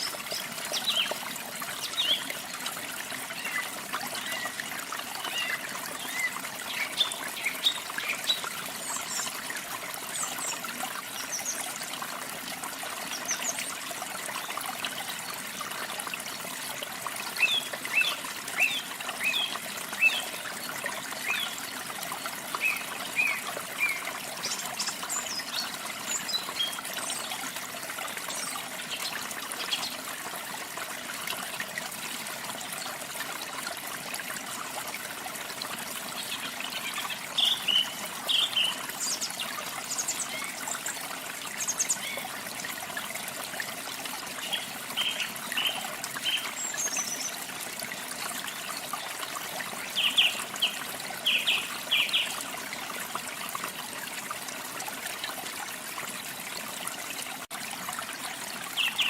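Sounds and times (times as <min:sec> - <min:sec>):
waterfall trickling and splashing: 0:00.0 - 0:59.0.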